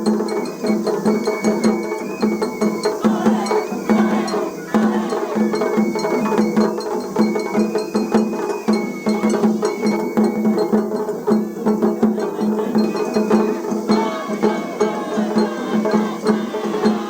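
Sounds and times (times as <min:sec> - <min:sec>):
bamboo flute: 0:00.0 - 0:17.0
drum beats: 0:00.0 - 0:17.0.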